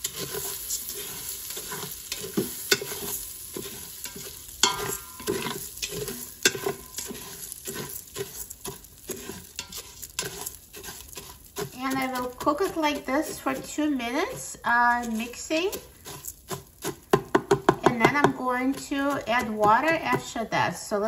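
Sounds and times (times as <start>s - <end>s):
dry grains rustling: 0.0s - 20.5s
faint butter sizzle: 0.0s - 21.0s
spatula scraping metal pot: 0.0s - 21.0s.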